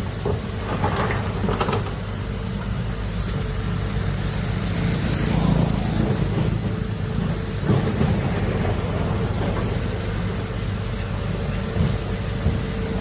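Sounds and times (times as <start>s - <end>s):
heavy diesel machinery engine drone: 0.0s - 13.0s.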